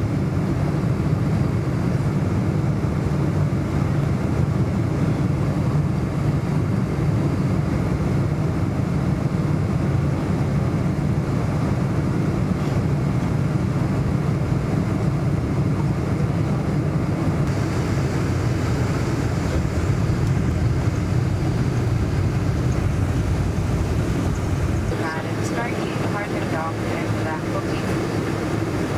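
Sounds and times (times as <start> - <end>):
jet engine cabin rumble: 0.0 - 28.9.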